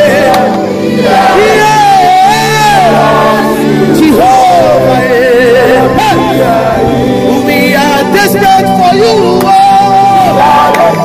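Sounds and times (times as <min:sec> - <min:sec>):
held chords: 0:00.0 - 0:11.0
voices singing: 0:00.0 - 0:11.0.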